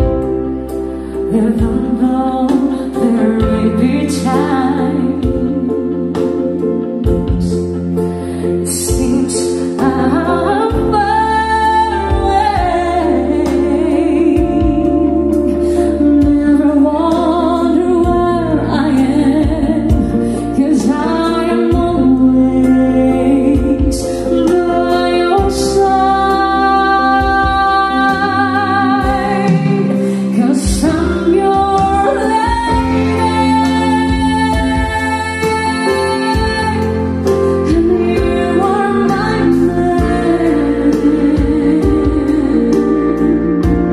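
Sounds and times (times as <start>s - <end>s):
steady musical accompaniment: 0.0s - 43.9s
woman singing slow song: 0.0s - 43.9s.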